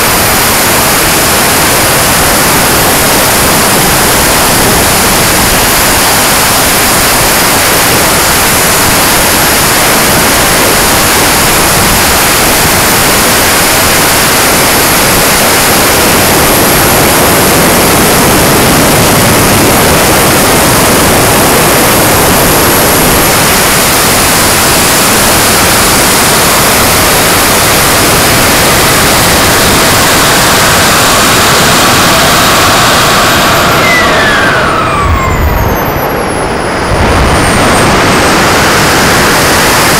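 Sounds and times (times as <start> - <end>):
airflow and turbine rush: 0.0 - 39.9
high turbine whine: 0.0 - 39.9.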